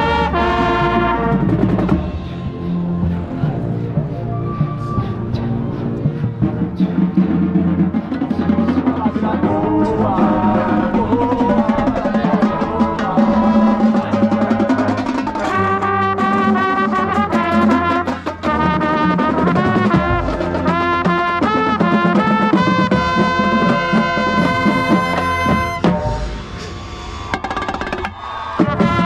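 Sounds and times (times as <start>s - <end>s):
brass chords: 0.0s - 26.4s, 28.6s - 29.0s
drums: 0.0s - 29.0s
trumpets: 0.0s - 29.0s.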